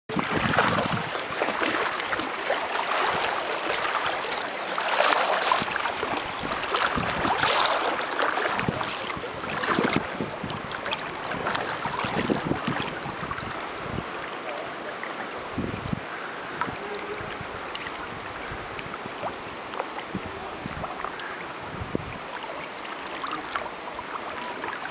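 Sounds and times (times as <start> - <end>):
water splashing and sloshing: 0.1 - 24.9.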